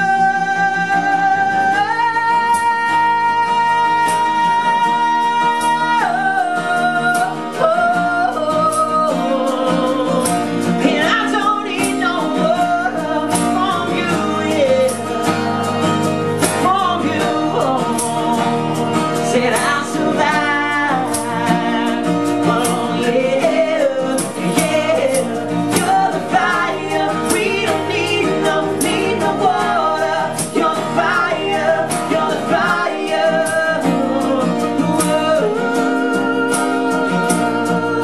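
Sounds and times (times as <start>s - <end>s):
guitar chords: 0.0s - 38.0s.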